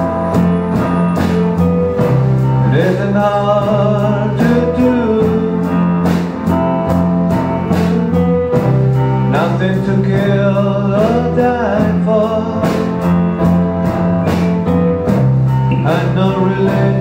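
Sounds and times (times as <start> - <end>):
drum beat: 0.0 - 17.0
live band playing slow ballad: 0.0 - 17.0.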